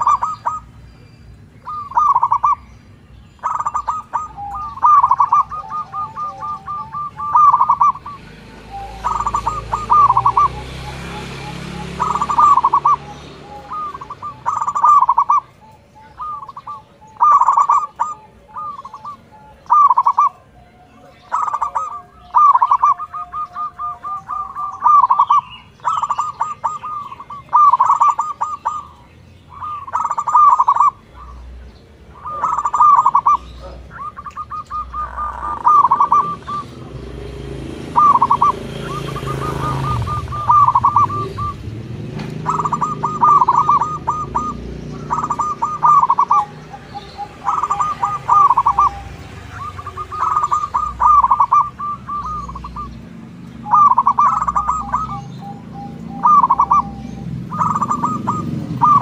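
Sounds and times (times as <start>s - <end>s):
dove cooing: 0.0s - 2.8s, 3.4s - 59.0s.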